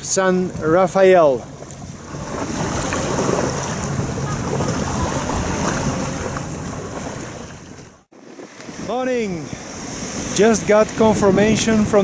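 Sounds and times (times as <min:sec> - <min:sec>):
wind and water rushing: 0:00.0 - 0:12.0
wind buffeting microphone: 0:00.0 - 0:12.0.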